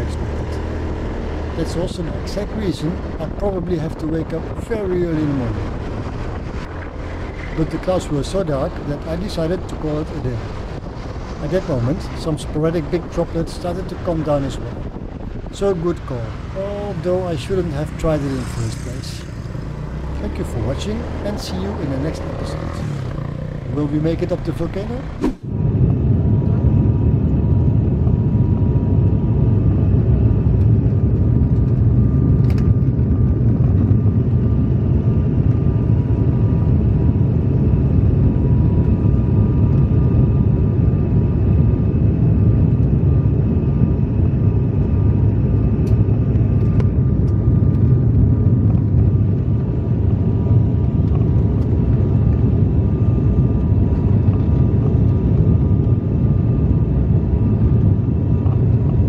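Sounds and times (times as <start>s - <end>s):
propeller engines droning: 0.0s - 59.0s.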